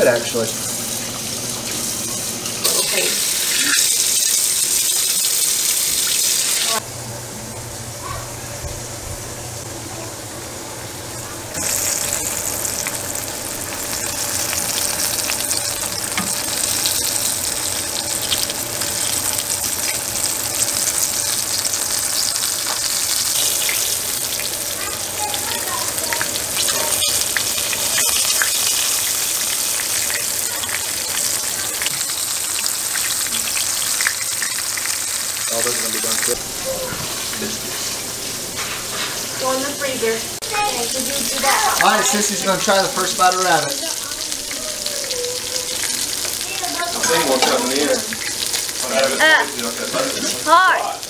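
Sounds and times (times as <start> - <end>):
meat frying in hot oil: 0.0 - 6.8, 11.5 - 38.4, 39.2 - 51.0.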